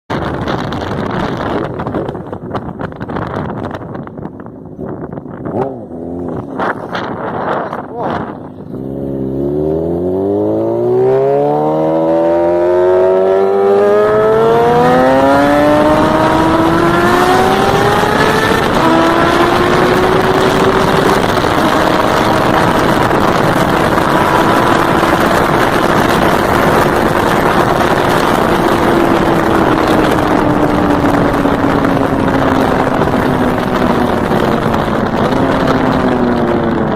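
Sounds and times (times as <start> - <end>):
motorcycle engine accelerating: 0.1 - 36.9
wind and road noise: 0.1 - 36.9.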